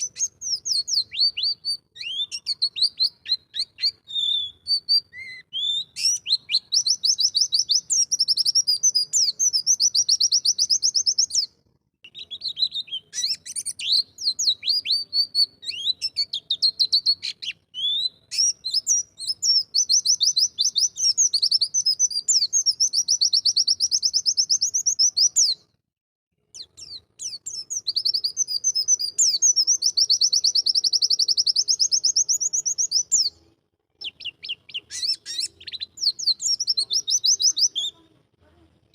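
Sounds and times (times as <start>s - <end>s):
bird singing fast chattering trills: 0.0s - 11.5s, 12.1s - 25.6s, 26.6s - 33.4s, 34.0s - 38.0s.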